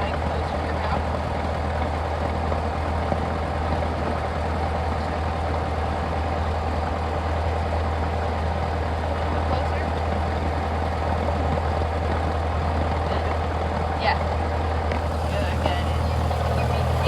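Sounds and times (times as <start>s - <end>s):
propeller plane engine drone in cabin: 0.0s - 17.0s.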